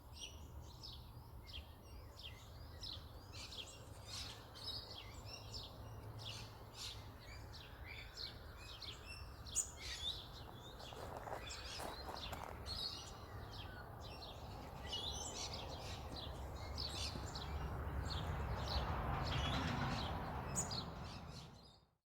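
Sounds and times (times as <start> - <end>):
birds chirping and tweeting: 0.1 - 21.9.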